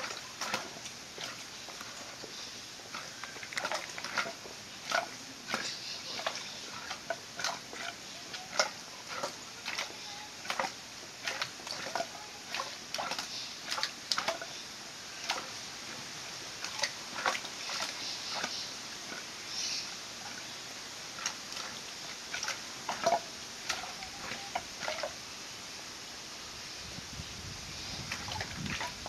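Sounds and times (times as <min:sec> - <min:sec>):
boar splashing in water: 0:00.0 - 0:25.2, 0:28.0 - 0:29.0.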